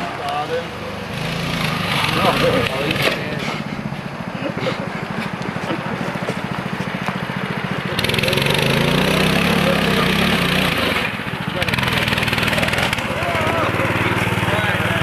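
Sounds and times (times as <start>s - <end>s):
small engine puttering and revving: 0.0s - 15.0s.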